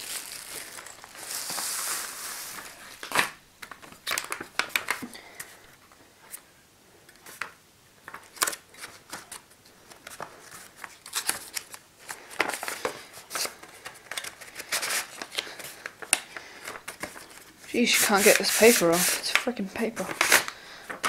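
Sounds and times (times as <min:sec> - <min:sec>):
stiff paper rustling: 0:00.0 - 0:05.0, 0:08.3 - 0:21.0.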